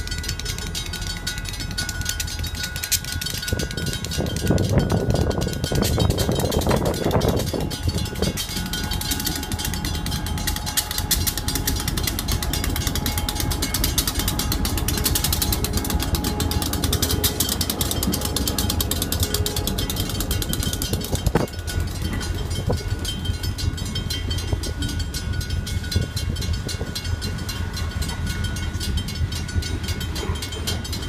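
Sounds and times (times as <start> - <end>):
diesel locomotive rumble: 0.0 - 31.0
train wheels clicking and clanking: 0.0 - 31.0.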